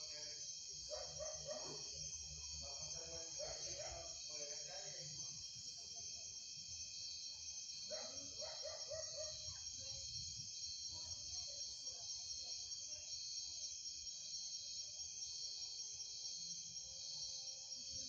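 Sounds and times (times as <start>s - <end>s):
lower repeated insect calls: 0.0s - 18.0s
night insects chorus: 0.0s - 18.0s.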